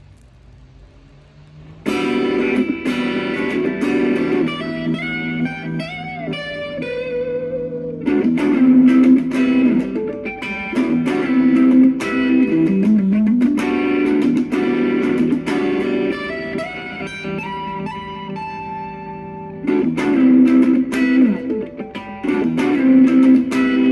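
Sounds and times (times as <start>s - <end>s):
electric guitar music: 1.6s - 23.9s.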